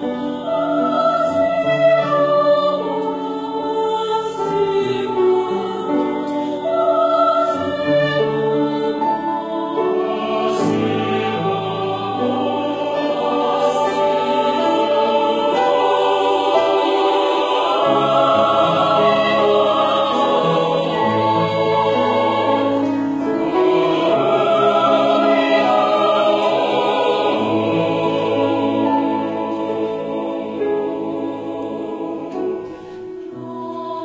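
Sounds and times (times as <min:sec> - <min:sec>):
mixed choir singing: 0:00.0 - 0:34.0
piano accompaniment: 0:00.0 - 0:34.0.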